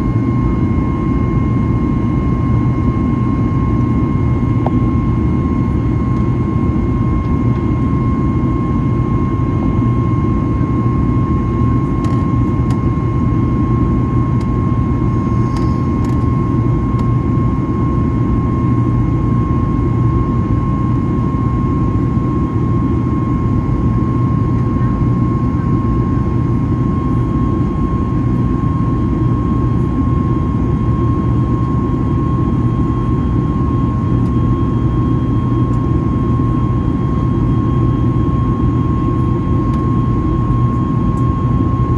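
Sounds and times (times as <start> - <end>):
jet engine rumble and airflow: 0.0 - 41.9.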